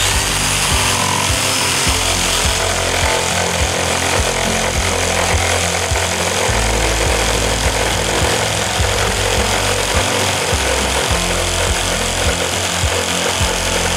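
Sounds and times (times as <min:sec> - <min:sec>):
jigsaw cutting wood: 0:00.0 - 0:13.9.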